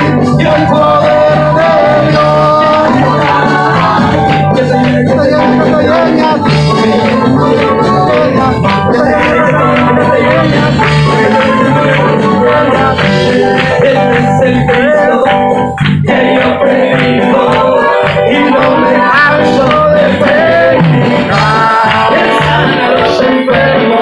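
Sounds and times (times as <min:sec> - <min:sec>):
electric guitar: 0:00.0 - 0:24.0
electric keyboard: 0:00.0 - 0:24.0
person singing: 0:00.0 - 0:24.0
worship band music: 0:00.0 - 0:24.0.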